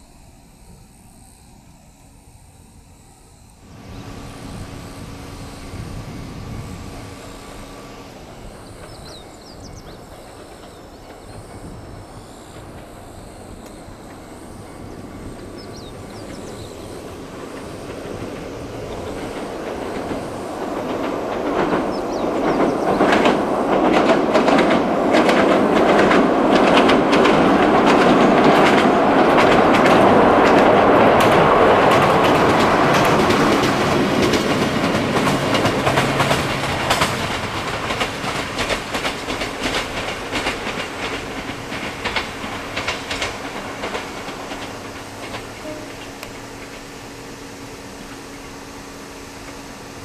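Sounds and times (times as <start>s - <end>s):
electric train running past: 0.0s - 50.0s
wheels clicking over rail joints: 3.7s - 50.0s.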